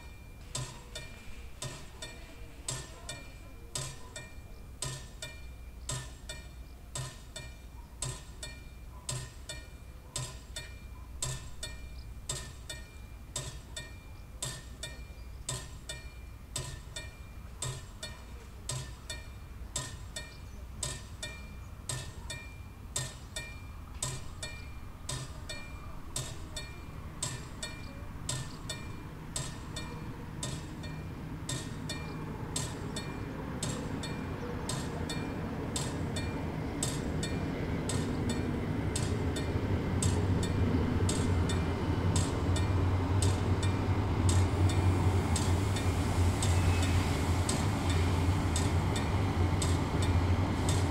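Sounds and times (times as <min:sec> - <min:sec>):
level crossing warning bell ringing: 0:00.0 - 0:50.9.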